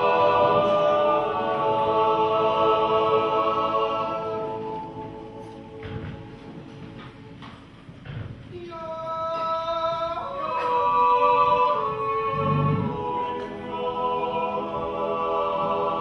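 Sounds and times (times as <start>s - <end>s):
men's choir singing chords: 0.0s - 7.6s, 8.8s - 16.0s.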